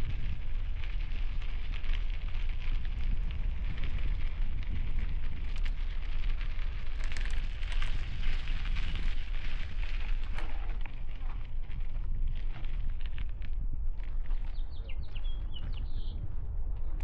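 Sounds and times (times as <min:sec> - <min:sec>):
bicycle tyres crunching on gravel: 0:00.0 - 0:17.0
wind buffeting microphone: 0:00.0 - 0:17.0.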